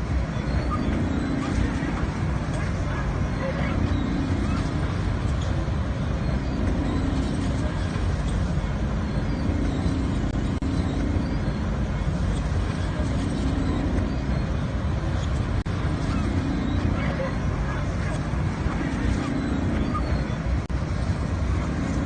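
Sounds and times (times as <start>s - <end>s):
carnival ride machinery din: 0.0s - 22.0s
low hum: 0.0s - 22.0s.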